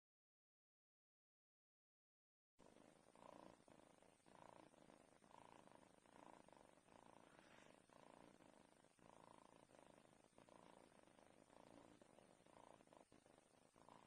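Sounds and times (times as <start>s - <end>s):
cat purring softly: 2.6s - 14.0s.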